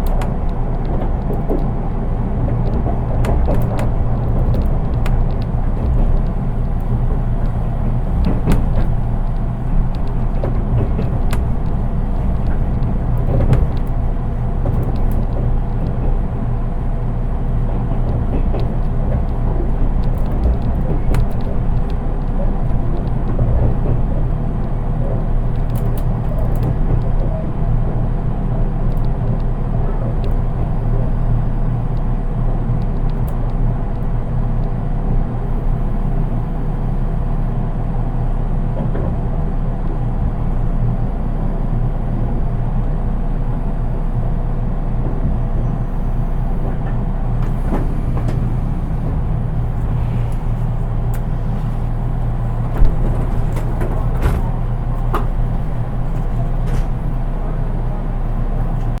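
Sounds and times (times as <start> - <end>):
electric train equipment hum: 0.0 - 59.0.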